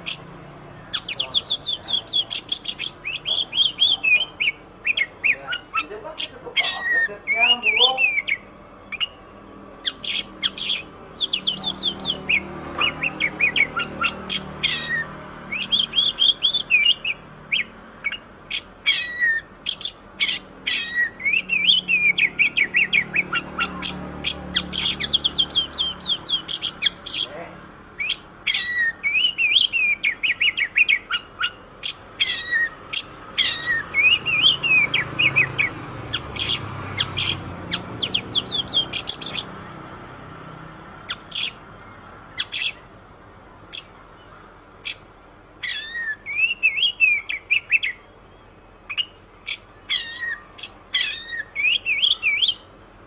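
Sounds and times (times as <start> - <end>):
songbird singing fast whistles: 0.9 - 9.2, 9.9 - 27.3, 28.0 - 39.5, 45.7 - 48.1, 48.9 - 52.6.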